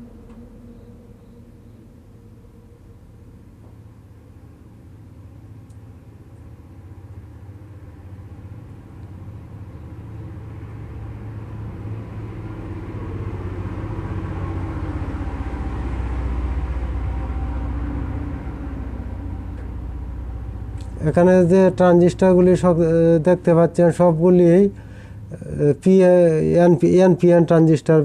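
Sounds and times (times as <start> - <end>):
low rumble with hum: 0.0 - 28.0.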